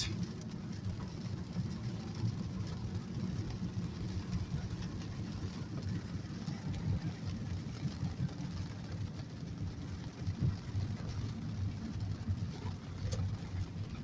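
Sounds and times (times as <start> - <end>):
car interior rumble: 0.0 - 14.0
rain hissing on car: 0.0 - 14.0.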